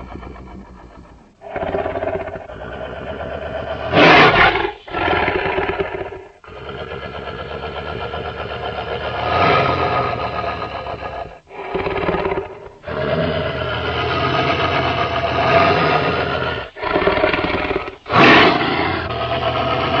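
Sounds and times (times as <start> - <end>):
monster roaring: 0.0 - 20.0.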